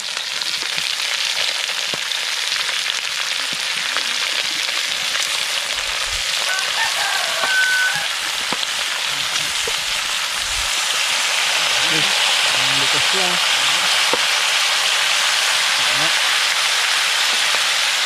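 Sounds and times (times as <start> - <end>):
frog pieces sizzling in oil: 0.0 - 18.0.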